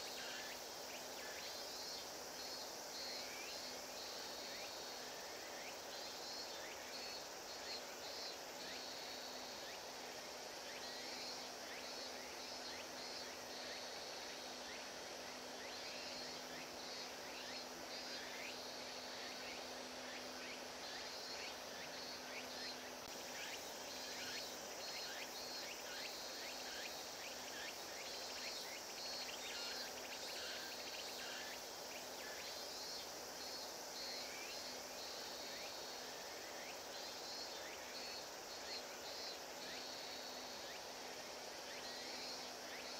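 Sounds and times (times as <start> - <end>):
insects chirping in pulsed bursts: 0.0 - 42.9
steady background hiss: 0.0 - 42.9.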